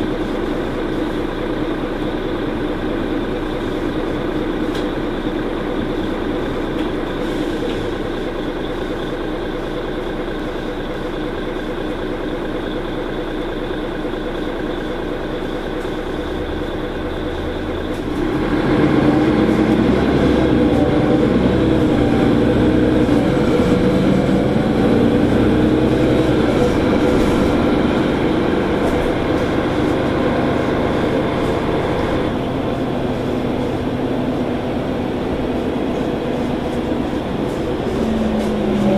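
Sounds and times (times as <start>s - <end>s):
bus engine running: 0.0s - 38.9s
drivetrain whine: 0.0s - 38.9s.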